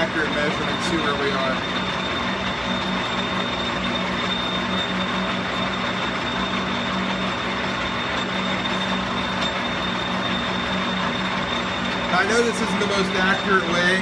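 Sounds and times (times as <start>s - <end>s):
metal lathe cutting with whine: 0.0s - 14.0s.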